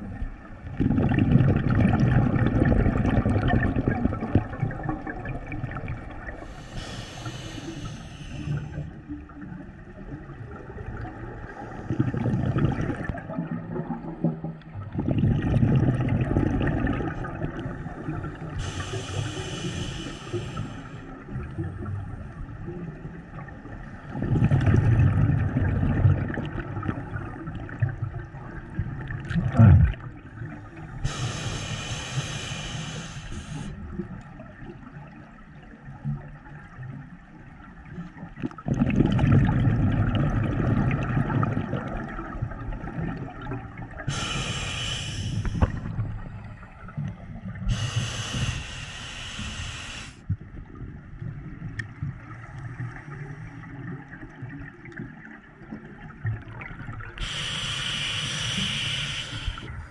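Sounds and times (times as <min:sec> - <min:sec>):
exhaled bubbles underwater: 0:00.0 - 0:59.9.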